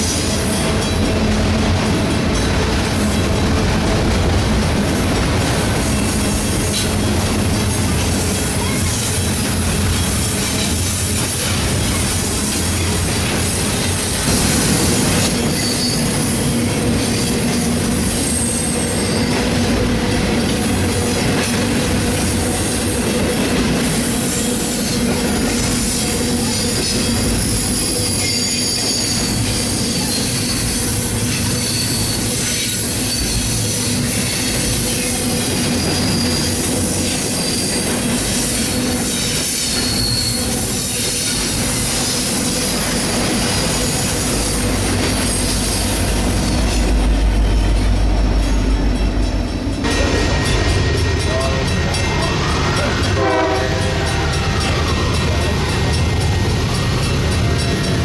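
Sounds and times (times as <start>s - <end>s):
train wheels squealing on rail: 0.0s - 4.1s, 4.8s - 58.0s
train rumble and clickety-clack: 0.0s - 58.0s.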